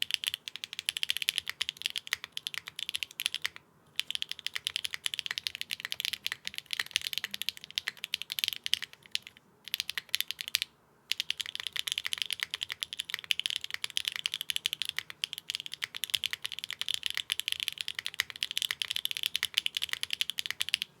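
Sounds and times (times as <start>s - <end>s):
mechanical keyboard typing: 0.0s - 20.9s.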